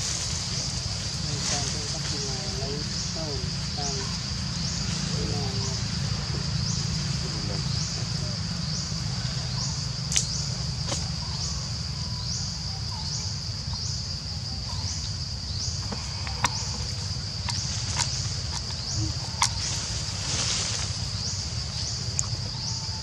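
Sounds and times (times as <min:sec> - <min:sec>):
insects droning: 0:00.0 - 0:23.0
low rumble: 0:00.0 - 0:23.0.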